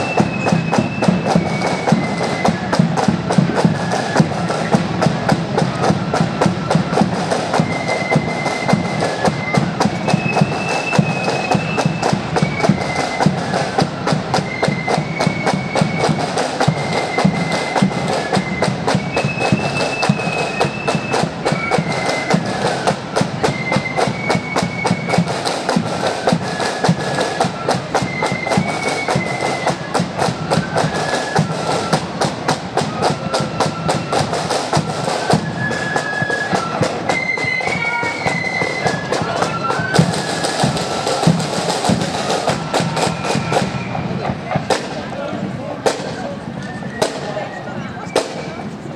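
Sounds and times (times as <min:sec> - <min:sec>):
snare drums beating rapidly: 0:00.0 - 0:47.6, 0:48.2 - 0:48.6
flutes playing high melody: 0:00.0 - 0:48.7.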